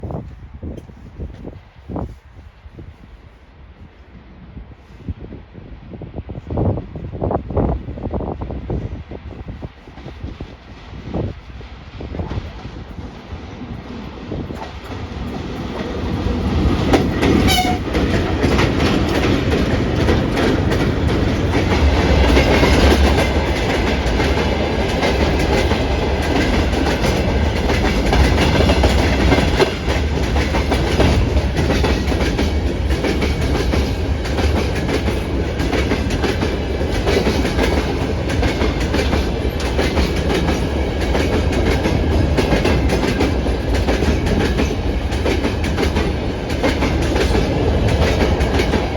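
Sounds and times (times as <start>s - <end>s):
freight train passing: 0.0s - 48.9s.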